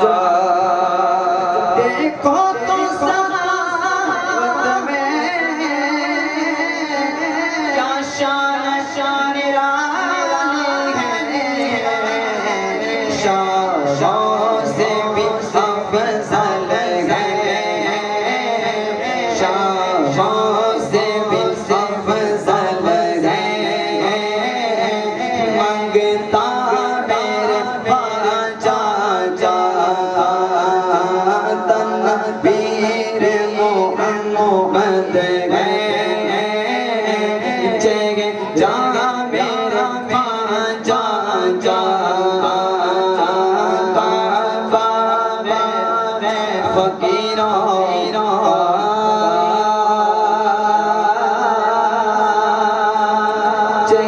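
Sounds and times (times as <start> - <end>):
man singing into a microphone: 0.0 - 54.0.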